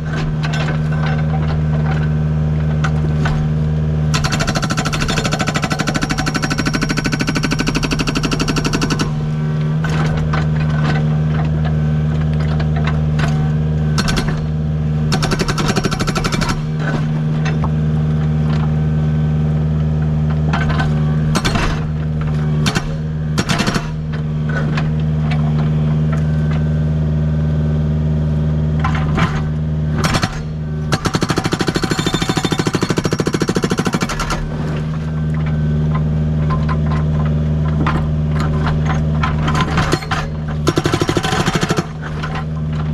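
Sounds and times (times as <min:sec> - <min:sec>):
hydraulic breaker hammer pounding rock: 0:00.0 - 0:18.8, 0:20.3 - 0:25.9, 0:28.7 - 0:42.9
diesel engine droning: 0:00.0 - 0:42.9.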